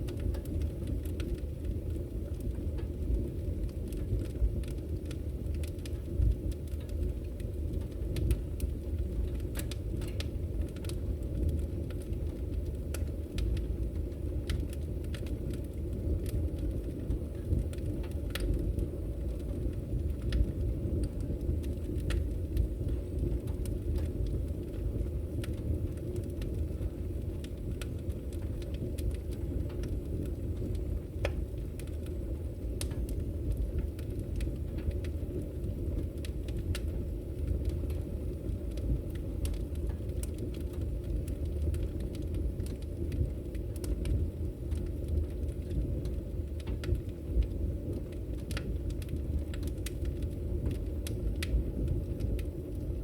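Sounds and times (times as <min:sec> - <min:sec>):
fire crackling and popping: 0:00.0 - 0:53.0
low rumble of fire: 0:00.0 - 0:53.0.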